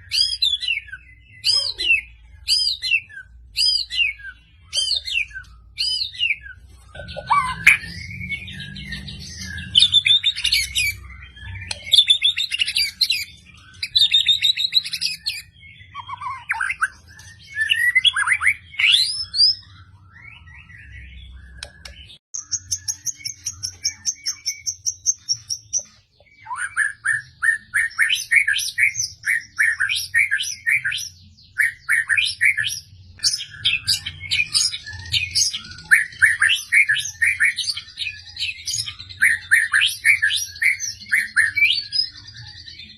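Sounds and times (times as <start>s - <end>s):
bird singing: 0.0s - 42.9s.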